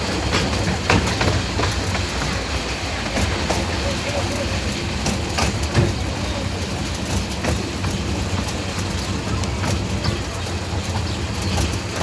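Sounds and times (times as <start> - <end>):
train rumbling on track: 0.0 - 12.0
wheels clicking over rail joints: 0.0 - 12.0.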